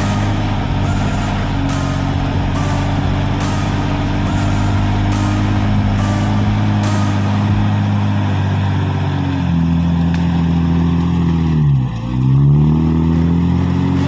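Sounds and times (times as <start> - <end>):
off-road engine running hard: 0.0 - 14.0.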